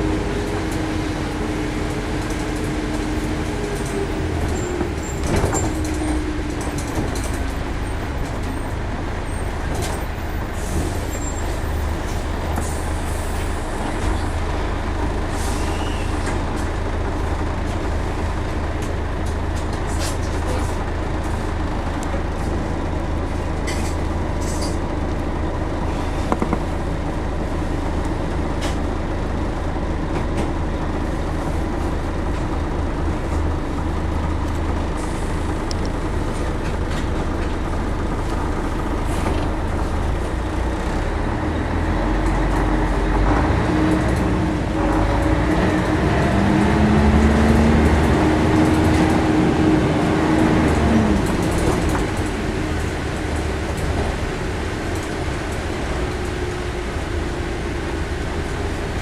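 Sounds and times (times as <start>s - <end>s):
diesel bus engine rumbling: 0.0s - 59.0s.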